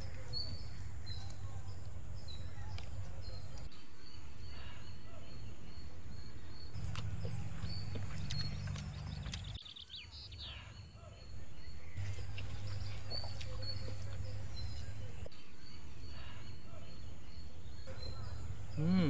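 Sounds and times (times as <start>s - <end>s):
steady low hum: 0.0s - 9.6s, 11.2s - 19.0s
small birds chirping: 0.0s - 19.0s.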